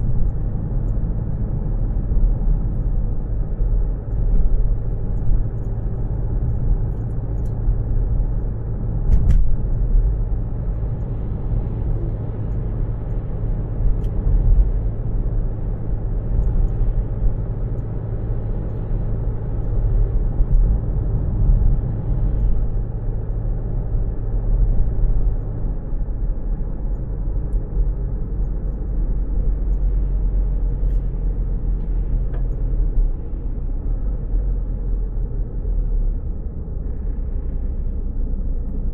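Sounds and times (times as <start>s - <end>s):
low hum: 0.0s - 38.9s
road and engine rumble: 0.0s - 38.9s.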